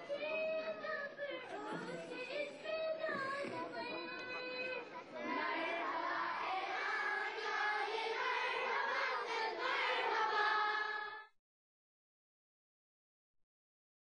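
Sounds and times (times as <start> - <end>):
children singing in chorus: 0.0 - 11.3.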